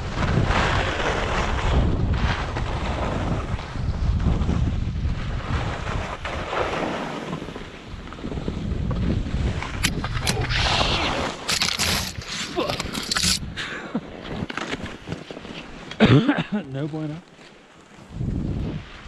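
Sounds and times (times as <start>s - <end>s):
wind rushing over microphone: 0.0s - 15.7s, 18.0s - 19.0s.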